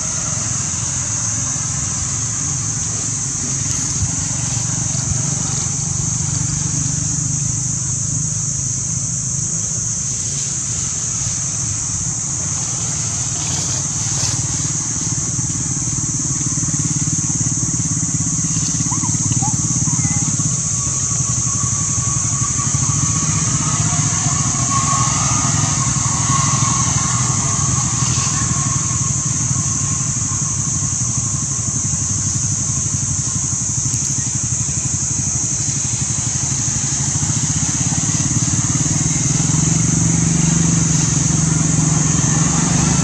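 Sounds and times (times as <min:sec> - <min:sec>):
high hiss: 0:00.0 - 0:43.0.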